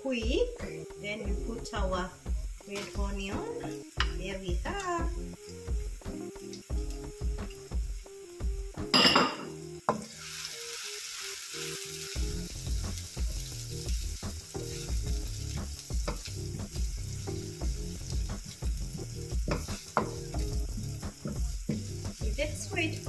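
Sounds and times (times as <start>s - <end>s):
onion sizzling in oil: 0.0s - 23.0s.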